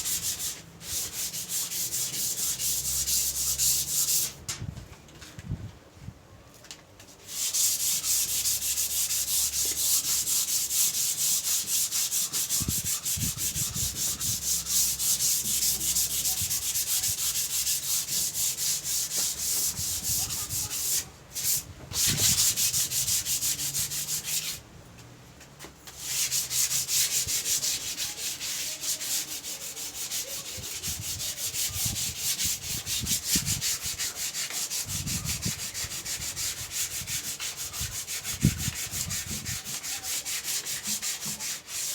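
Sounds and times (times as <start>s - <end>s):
sandpaper on wood: 0.0s - 4.4s, 7.3s - 24.6s, 25.9s - 41.9s.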